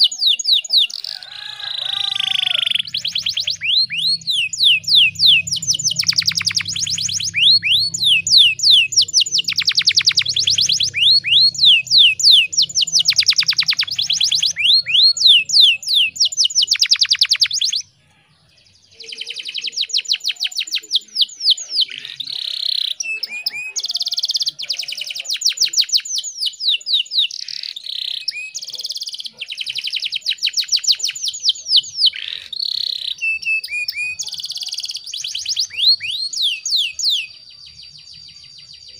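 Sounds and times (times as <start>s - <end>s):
canary chirping trills: 0.0s - 38.9s.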